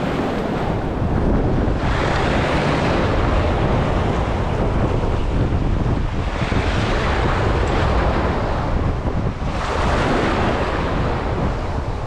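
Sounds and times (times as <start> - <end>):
choppy sea water rushing: 0.0 - 12.0
wind buffeting microphone: 0.0 - 12.0.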